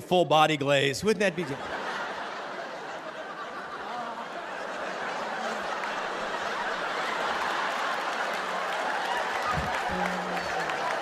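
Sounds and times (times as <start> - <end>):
audience laughing: 1.1 - 11.0.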